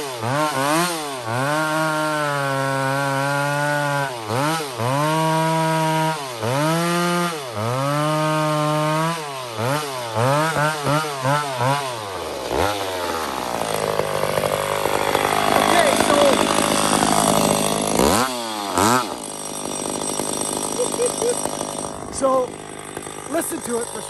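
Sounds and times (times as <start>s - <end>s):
chainsaw running at high revs: 0.0s - 24.0s.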